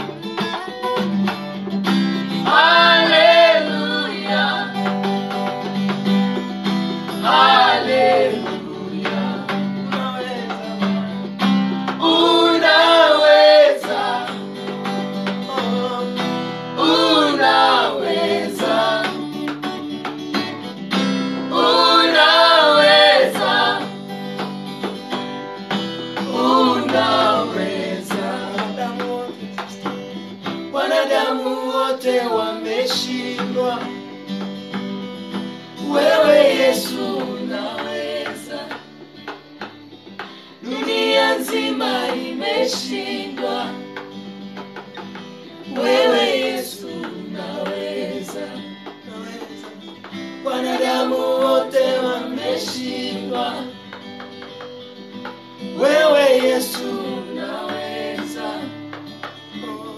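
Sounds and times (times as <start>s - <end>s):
acoustic guitar: 0.0s - 59.9s
group singing gospel song: 2.2s - 59.9s.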